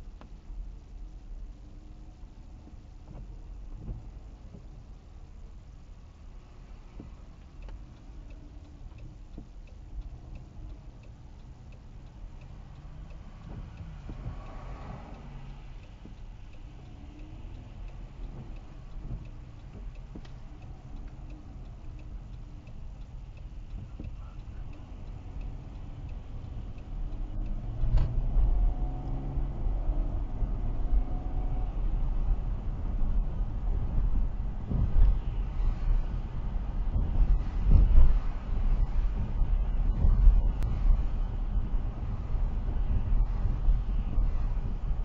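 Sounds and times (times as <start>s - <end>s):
car road and engine rumble: 0.0s - 45.0s
faint regular ticking: 0.0s - 45.0s.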